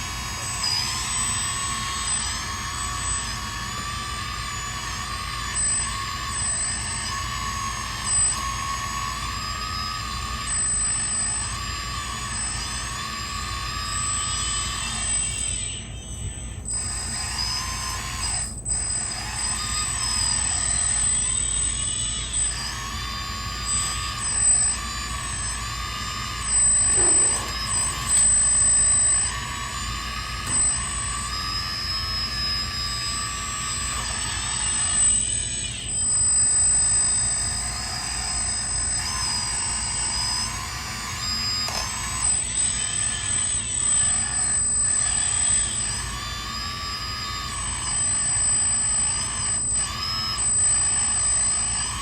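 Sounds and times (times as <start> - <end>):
electric motors whining: 0.0 - 52.0.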